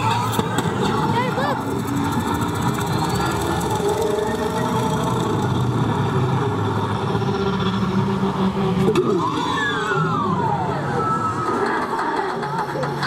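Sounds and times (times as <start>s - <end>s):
high squealing glides: 0.0s - 12.9s.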